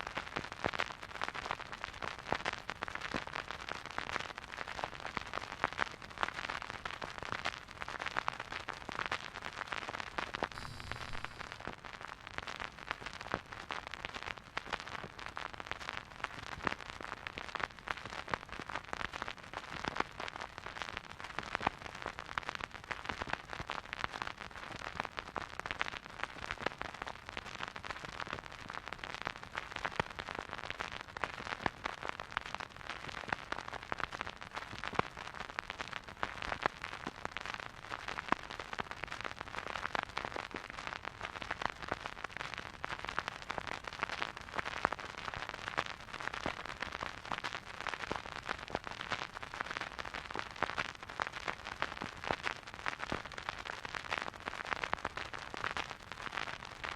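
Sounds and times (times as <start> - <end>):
vinyl crackles and pops: 0.0 - 56.9
vinyl record hiss: 0.1 - 56.9.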